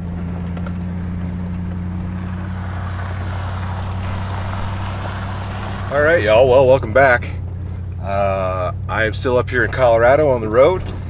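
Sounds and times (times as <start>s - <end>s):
road and tyre noise: 0.0s - 11.0s
truck engine drone: 0.0s - 11.0s.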